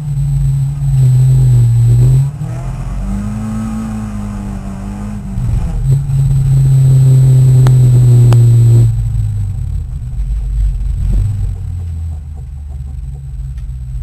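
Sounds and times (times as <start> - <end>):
racing car engine pulling hard: 0.0 - 14.0.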